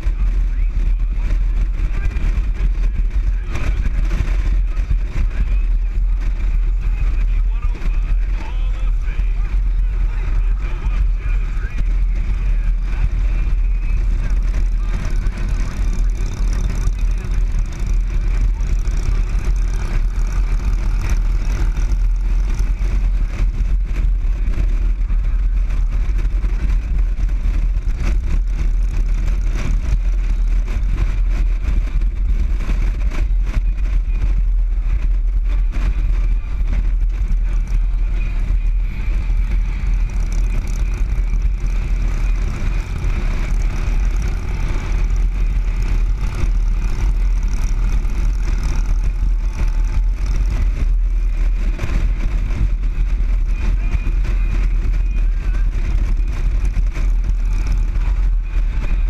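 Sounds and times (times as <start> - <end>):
motorcycle engine drone: 0.0 - 59.0
wind rush on microphone: 0.0 - 59.0.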